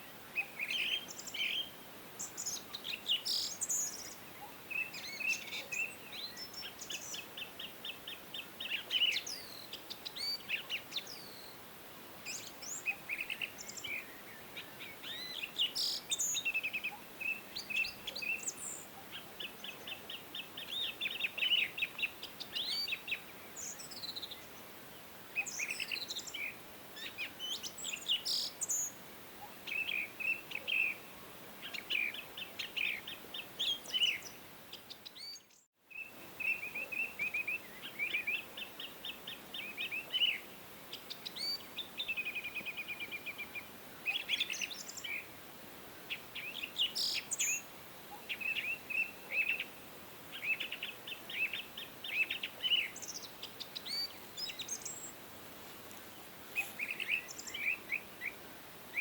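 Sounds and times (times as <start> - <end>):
faint steady hiss: 0.0 - 59.0
songbirds singing and calling: 0.0 - 59.0.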